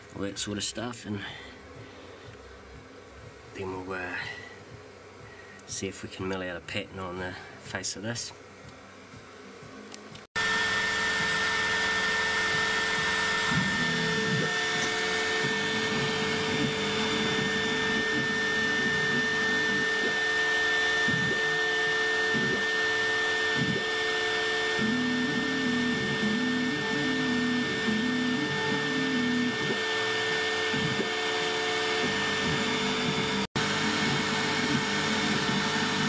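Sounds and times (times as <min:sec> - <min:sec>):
axis drives humming: 0:00.0 - 0:36.0
spindle motor high whine: 0:00.0 - 0:36.0.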